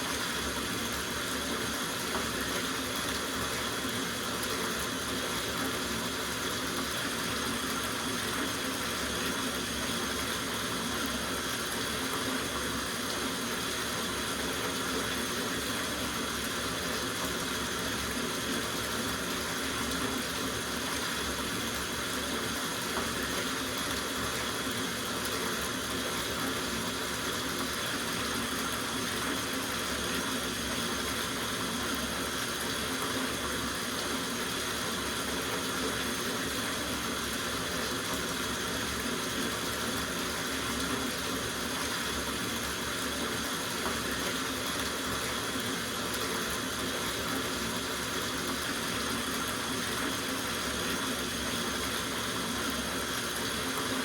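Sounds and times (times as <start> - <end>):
tap water running into bathtub: 0.0 - 54.0.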